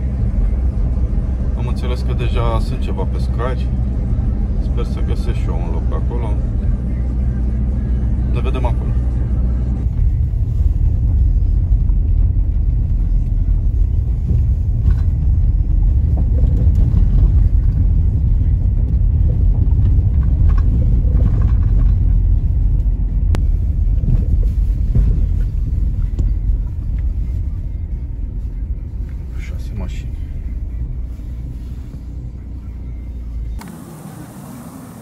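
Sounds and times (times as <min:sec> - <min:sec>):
car rumbling on dirt track: 0:00.0 - 0:35.0.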